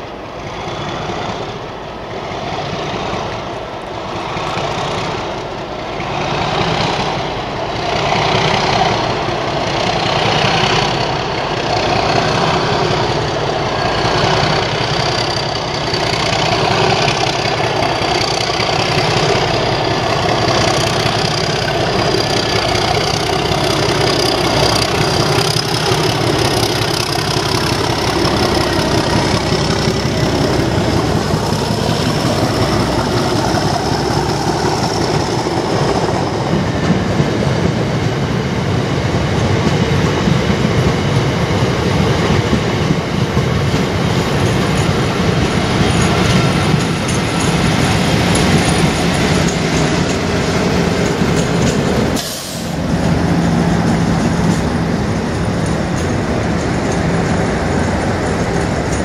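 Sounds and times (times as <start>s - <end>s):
diesel locomotive engine running: 0.0s - 59.0s
wheels clattering over rail joints: 2.2s - 59.0s.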